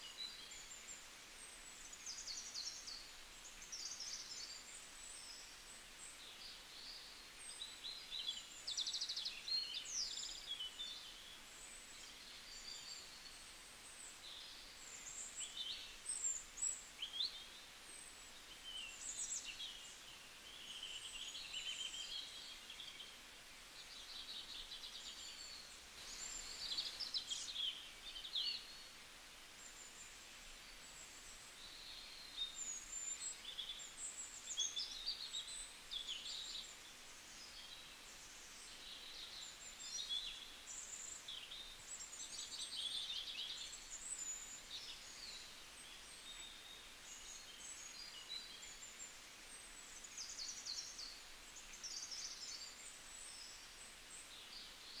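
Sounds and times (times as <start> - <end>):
faint background hiss: 0.0 - 55.0
small birds chirping and twittering: 0.0 - 55.0.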